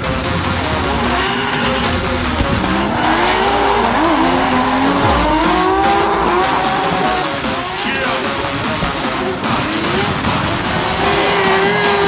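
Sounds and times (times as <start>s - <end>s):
car engine revving: 0.0s - 12.0s
tyres squealing: 0.0s - 12.0s.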